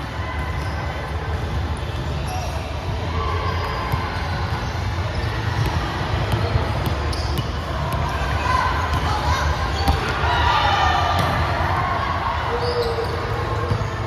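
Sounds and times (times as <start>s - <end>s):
voices echoing in hall: 0.0s - 14.0s.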